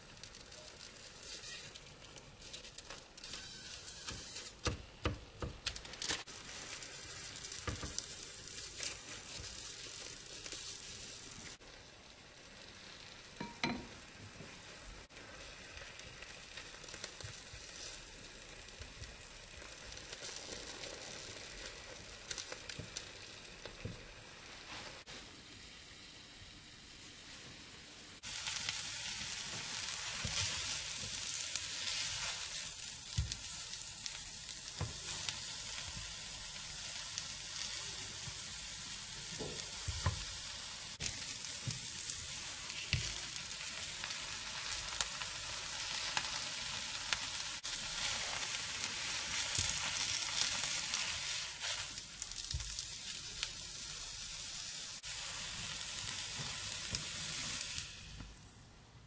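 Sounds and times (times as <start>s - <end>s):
egg roll sizzling in pan: 0.0s - 58.7s.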